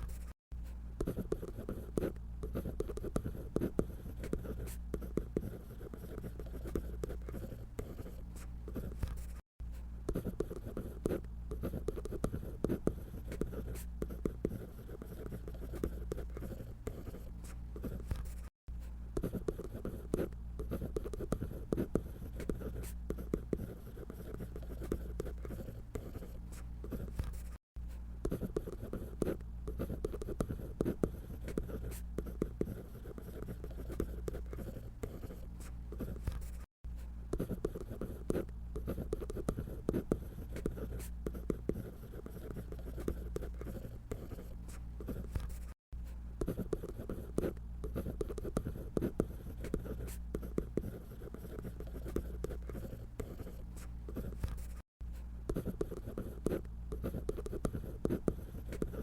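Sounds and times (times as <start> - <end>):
drawing on paper: 0.0 - 0.4, 1.0 - 9.4, 10.1 - 18.5, 19.2 - 27.6, 28.2 - 36.7, 37.3 - 45.8, 46.4 - 54.9, 55.5 - 59.0.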